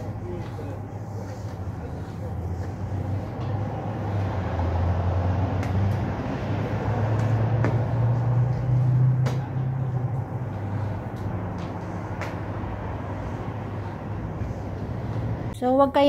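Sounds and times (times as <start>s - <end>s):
mop swishing across tiled floor: 0.0s - 15.5s
low mechanical rumble: 0.0s - 15.7s.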